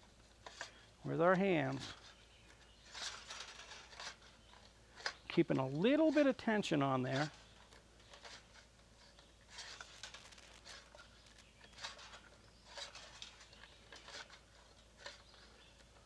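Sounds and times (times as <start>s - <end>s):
steel spring scraping and ticking: 1.5s - 15.9s.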